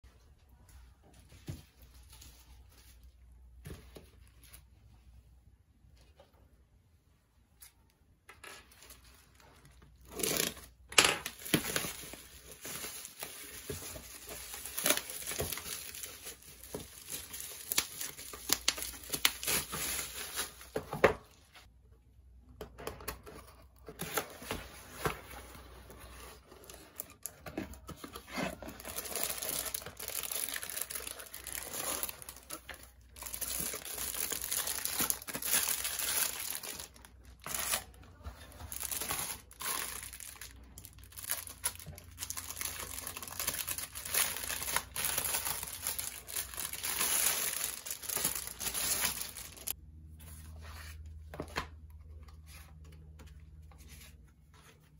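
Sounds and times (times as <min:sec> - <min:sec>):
paper and plastic crinkling: 0:08.4 - 0:21.7, 0:23.8 - 0:54.9.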